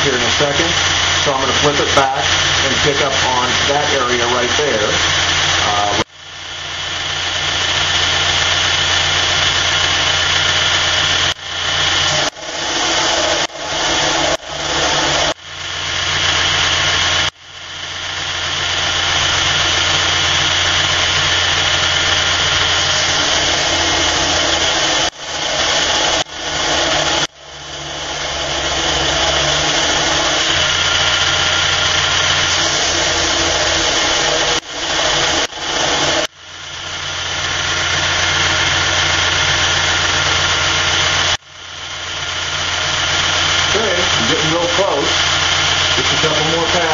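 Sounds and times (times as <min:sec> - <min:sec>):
belt grinder grinding steel: 0:00.0 - 0:46.9.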